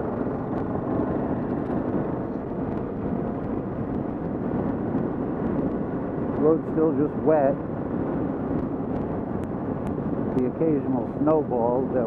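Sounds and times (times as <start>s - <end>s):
wind noise: 0.0s - 12.0s.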